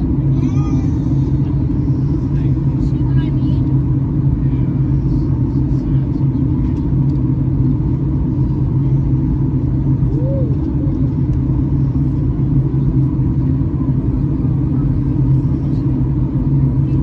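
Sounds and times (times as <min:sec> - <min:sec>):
airflow over fuselage: 0:00.0 - 0:17.0
airplane cabin engine drone: 0:00.0 - 0:17.0
low hum: 0:00.0 - 0:17.0.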